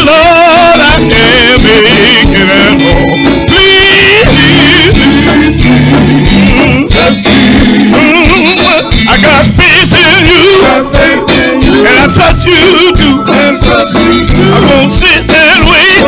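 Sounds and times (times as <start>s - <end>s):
instrumental backing: 0.0s - 16.0s
men's vocal group singing gospel: 0.0s - 16.0s.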